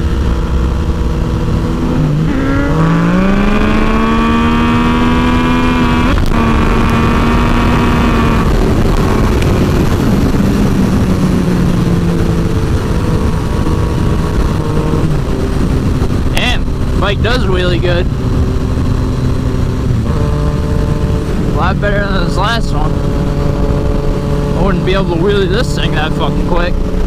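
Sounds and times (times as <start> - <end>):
motorcycle engine accelerating: 0.0 - 27.0
wind noise: 0.0 - 27.0.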